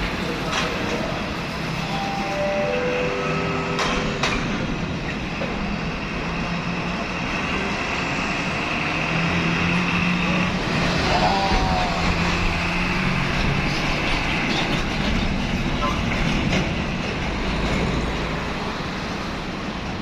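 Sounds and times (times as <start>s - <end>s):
truck diesel engines rumbling: 0.0s - 20.0s.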